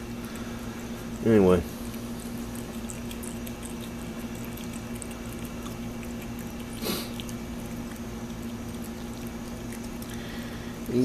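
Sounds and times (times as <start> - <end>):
cat chewing and licking: 0.0 - 11.0.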